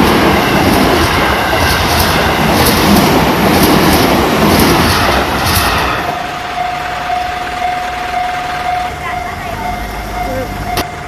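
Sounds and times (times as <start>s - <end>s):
train wheels clattering: 0.0s - 11.0s.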